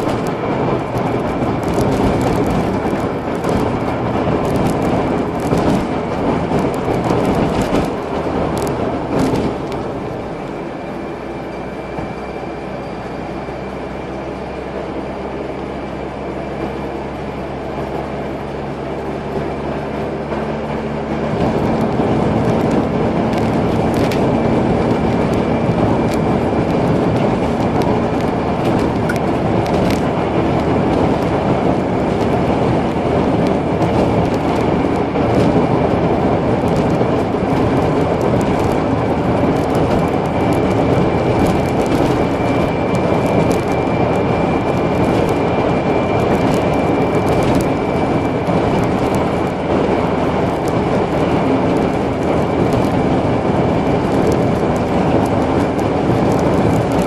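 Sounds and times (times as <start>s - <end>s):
car engine: 0.0s - 57.0s
tyre and road noise: 0.0s - 57.0s.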